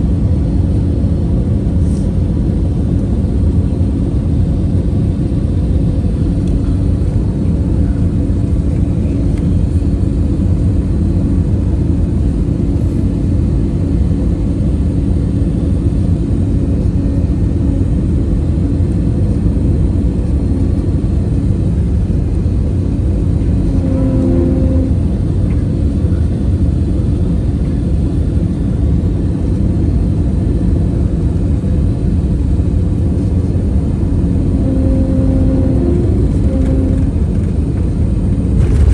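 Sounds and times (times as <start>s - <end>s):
airliner engine and airflow rumble: 0.0s - 38.9s
faint constant hum: 0.0s - 38.9s.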